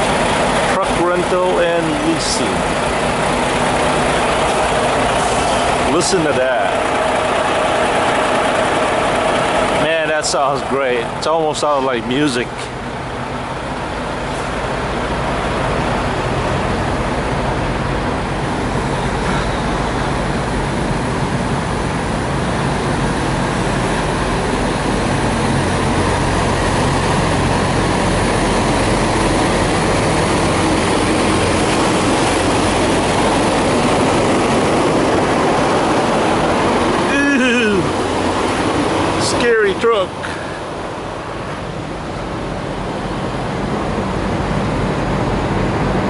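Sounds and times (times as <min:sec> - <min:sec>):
diesel truck engines idling: 0:00.0 - 0:46.0.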